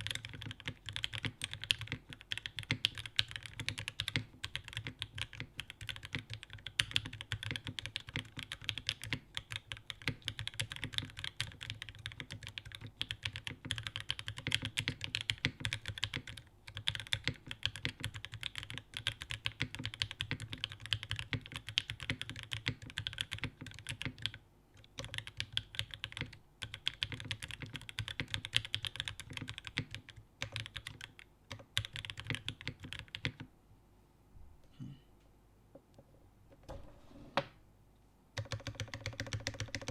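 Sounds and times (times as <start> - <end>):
fast mechanical keyboard typing: 0.0 - 33.5, 38.4 - 39.9.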